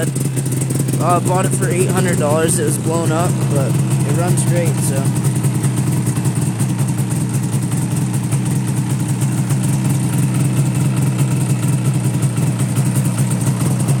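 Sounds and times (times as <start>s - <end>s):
snowmobile engine idling: 0.0s - 14.0s.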